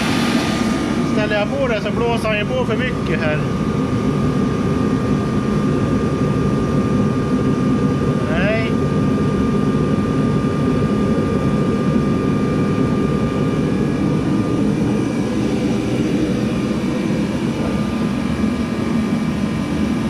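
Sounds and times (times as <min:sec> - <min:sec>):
heater fan and burner rushing: 0:00.0 - 0:20.0
thin steady whine: 0:00.0 - 0:20.0.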